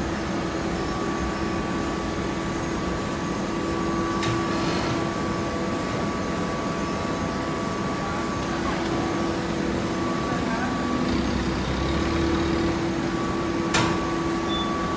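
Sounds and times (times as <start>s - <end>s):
hydraulic machinery hum: 0.0s - 14.9s.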